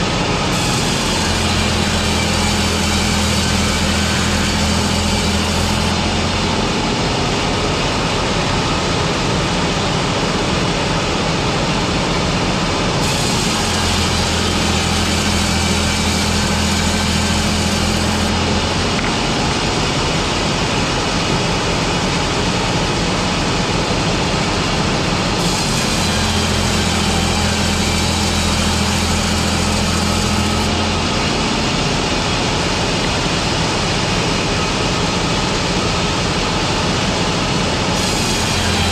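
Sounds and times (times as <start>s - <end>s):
deep machine hum: 0.0s - 38.9s
machinery running loudly: 0.0s - 38.9s.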